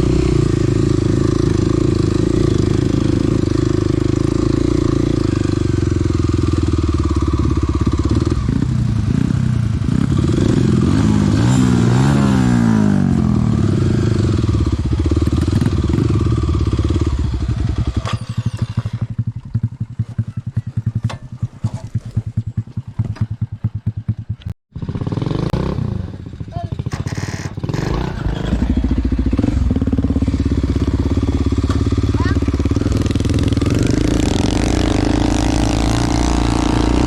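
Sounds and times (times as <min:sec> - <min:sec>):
dirt bike engine revving: 0:00.0 - 0:21.7, 0:22.3 - 0:37.0.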